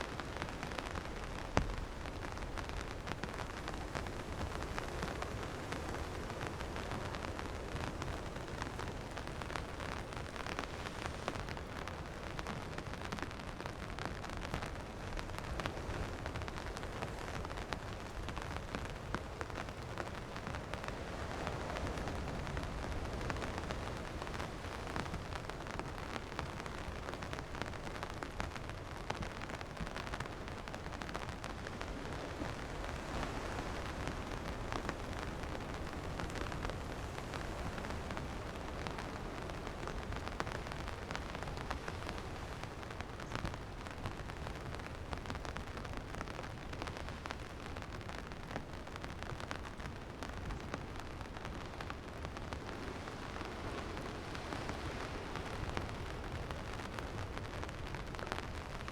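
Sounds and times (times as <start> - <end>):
close raindrops ticking: 0.0 - 58.9
rain falling: 0.0 - 58.9.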